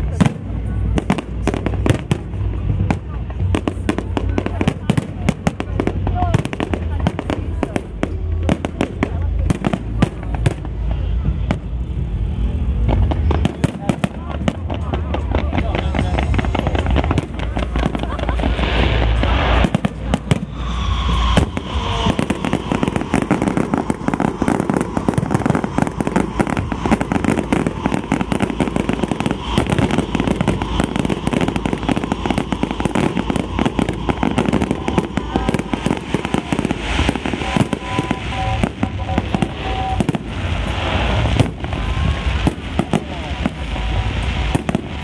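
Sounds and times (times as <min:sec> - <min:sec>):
firecrackers crackling: 0:00.0 - 0:45.0
firework whistles: 0:01.0 - 0:45.0.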